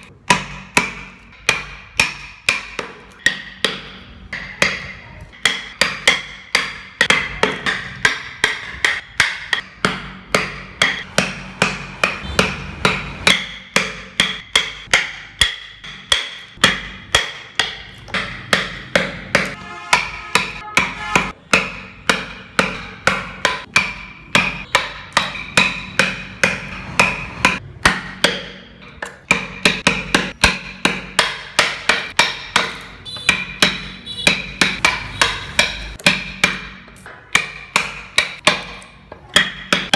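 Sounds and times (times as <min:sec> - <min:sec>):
hammer striking with ring: 0:00.0 - 0:39.9.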